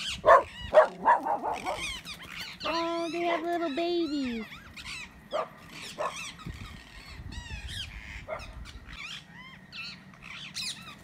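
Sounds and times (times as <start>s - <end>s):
harsh bird calls: 0.0s - 11.0s
small birds chirping: 0.0s - 11.0s.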